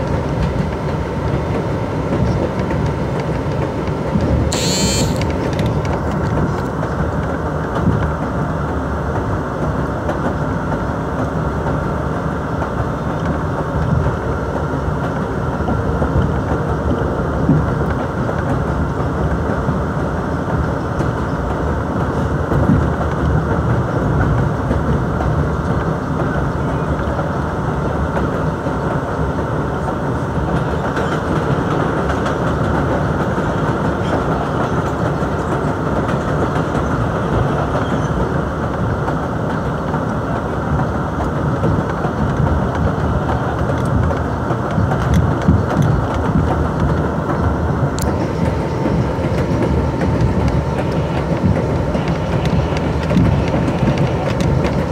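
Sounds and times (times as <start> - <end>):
passing train: 0.0 - 54.9
train wheels rumbling on rails: 0.0 - 54.9.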